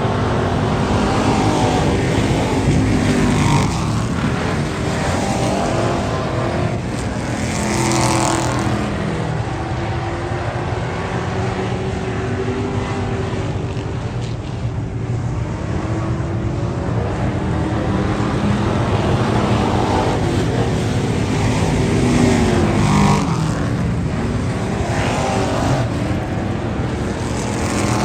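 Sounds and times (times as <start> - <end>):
race car engines passing: 0.0 - 28.0.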